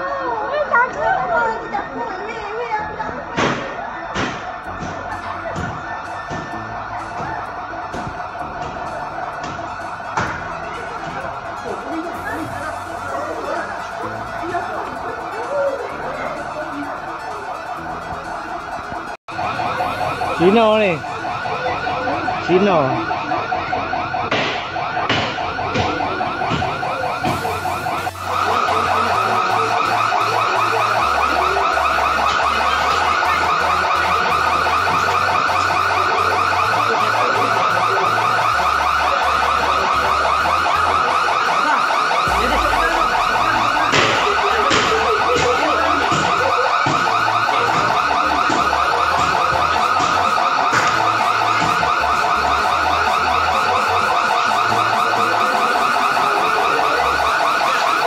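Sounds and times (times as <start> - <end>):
warbling security alarm siren: 0.0 - 58.0.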